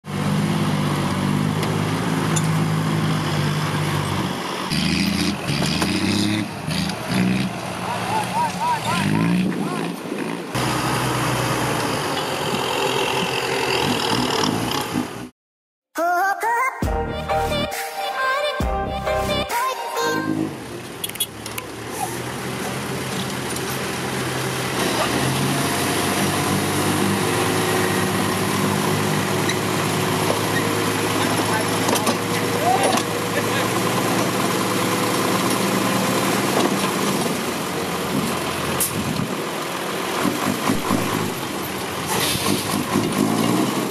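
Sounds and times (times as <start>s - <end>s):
truck diesel engine running: 0.1s - 15.3s, 20.4s - 43.9s.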